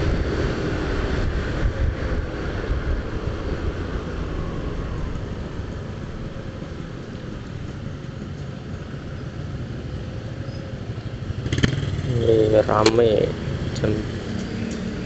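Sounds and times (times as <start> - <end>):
road rumble: 0.0 - 15.0
scooter engine: 0.0 - 15.0
wind buffeting microphone: 0.0 - 15.0.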